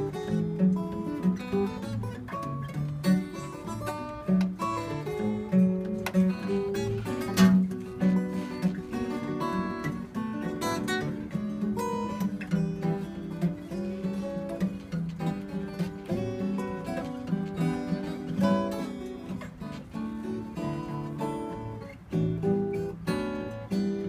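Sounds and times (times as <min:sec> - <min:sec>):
acoustic guitars playing: 0:00.0 - 0:24.0.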